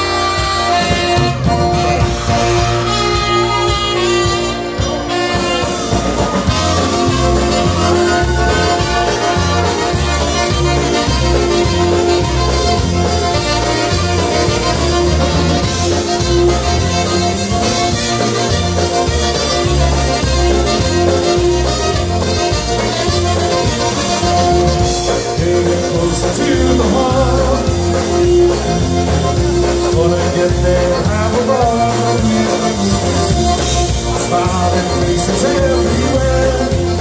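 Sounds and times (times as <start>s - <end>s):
bouncing bass line: 0.0s - 37.0s
polka band playing: 0.0s - 37.0s
trumpet leading: 0.0s - 37.0s.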